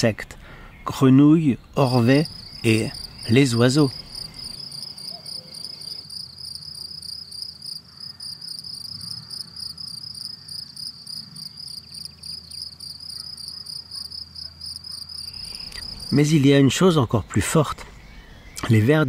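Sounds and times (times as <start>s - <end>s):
insects chirping: 1.6s - 19.0s.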